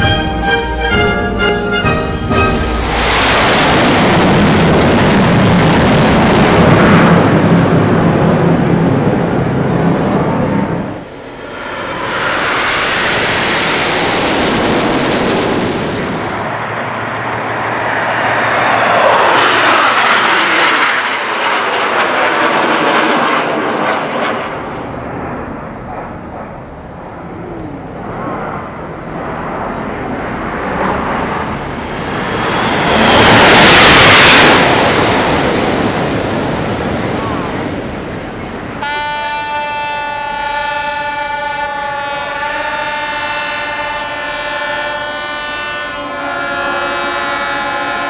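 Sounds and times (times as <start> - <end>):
jet aircraft flying past: 0.0 - 39.3.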